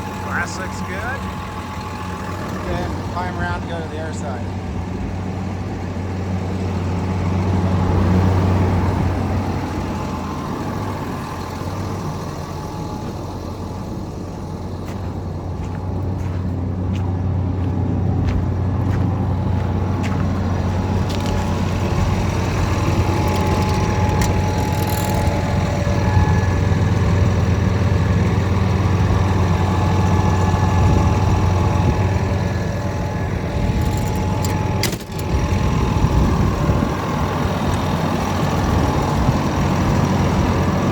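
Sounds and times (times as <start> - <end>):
bulldozer diesel engine idling: 0.0 - 40.9.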